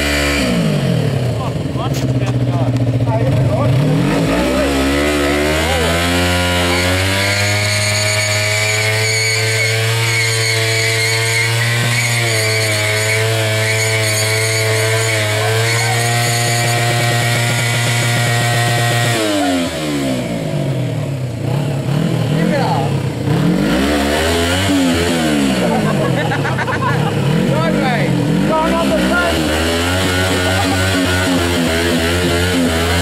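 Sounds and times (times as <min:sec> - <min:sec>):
motorcycle engine revving hard: 0:00.0 - 0:33.0.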